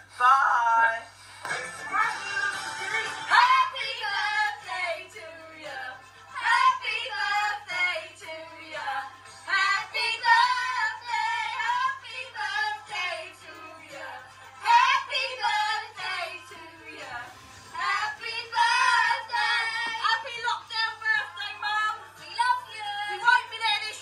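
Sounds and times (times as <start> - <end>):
women and children singing: 1.9 - 24.0.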